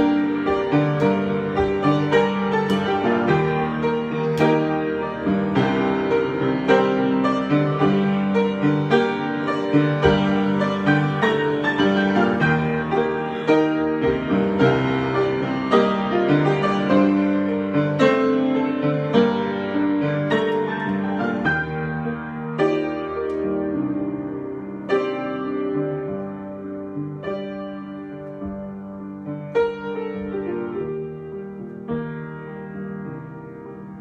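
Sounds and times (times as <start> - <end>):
solo piano: 0.0 - 34.0.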